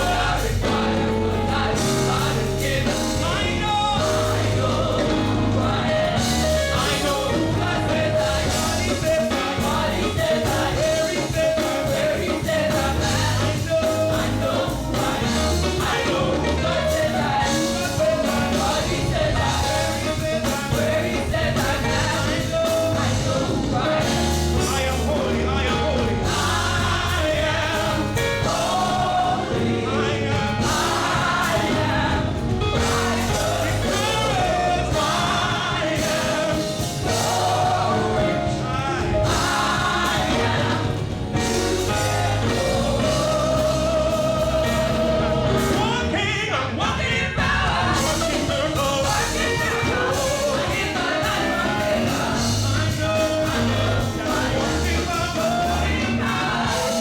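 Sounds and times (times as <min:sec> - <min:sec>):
gospel choir with band: 0:00.0 - 0:57.0.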